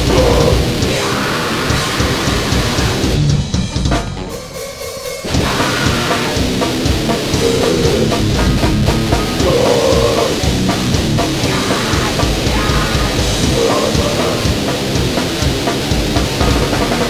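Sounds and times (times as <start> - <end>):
drum kit hammering fast: 0.0 - 17.0
loud distorted band music: 0.0 - 17.0.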